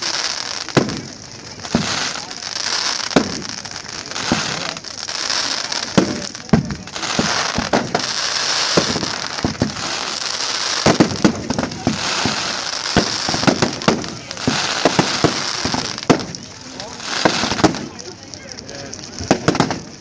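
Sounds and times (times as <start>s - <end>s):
fireworks bangs: 0.0s - 20.0s
rushing crackling noise: 0.0s - 20.0s.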